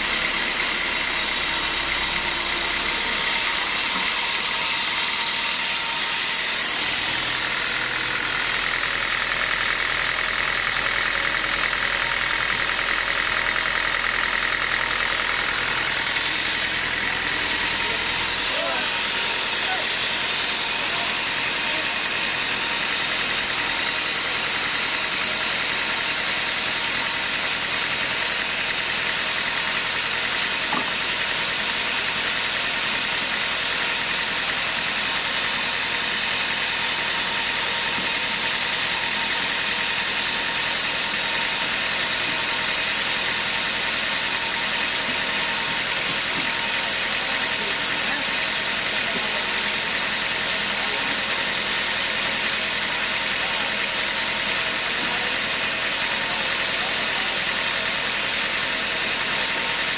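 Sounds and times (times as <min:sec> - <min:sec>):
band sawmill humming: 0:00.0 - 0:59.9.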